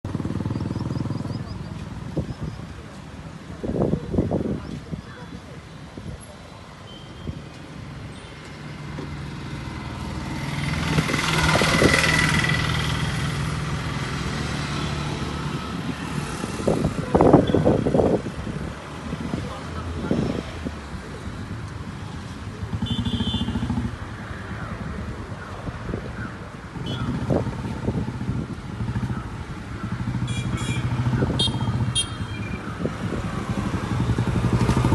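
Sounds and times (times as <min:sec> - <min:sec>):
tyre and road noise: 0:00.0 - 0:34.9.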